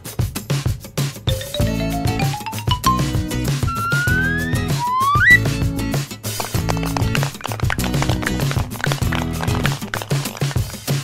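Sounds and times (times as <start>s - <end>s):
background music with tapping beat: 0.0s - 11.0s.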